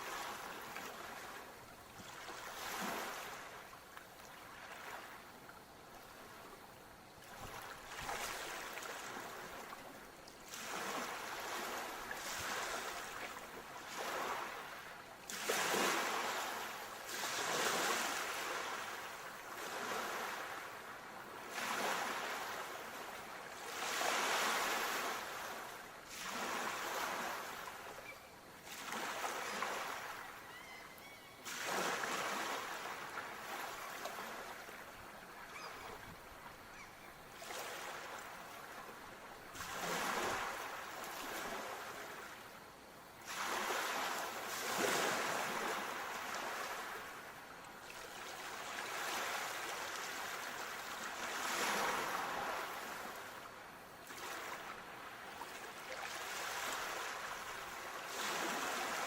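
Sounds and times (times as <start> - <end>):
waves washing ashore: 0.0 - 30.5, 31.4 - 36.8, 37.4 - 42.5, 43.2 - 59.0.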